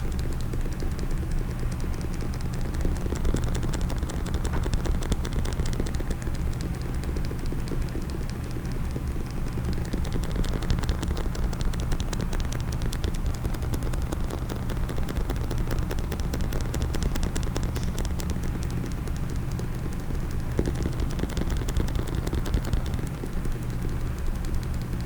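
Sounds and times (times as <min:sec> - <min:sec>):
fast tapping on hard case: 0:00.0 - 0:25.0.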